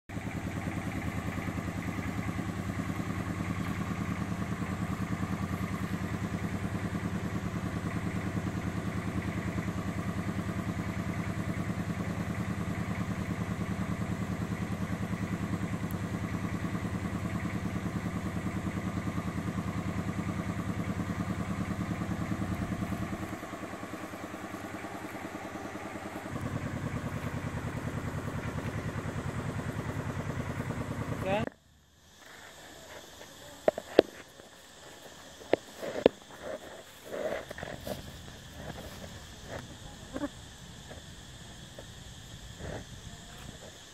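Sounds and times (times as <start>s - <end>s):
small engine humming: 0.0s - 43.9s.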